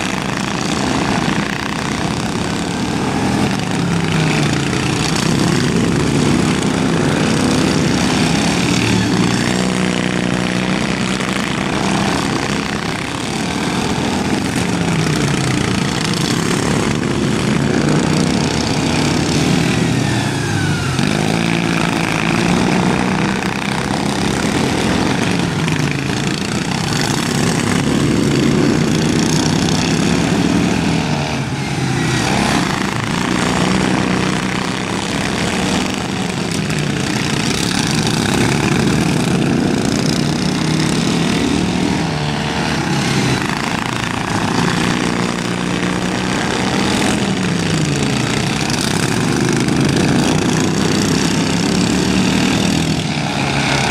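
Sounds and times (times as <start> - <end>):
racing lawn mower engines: 0.0 - 53.9.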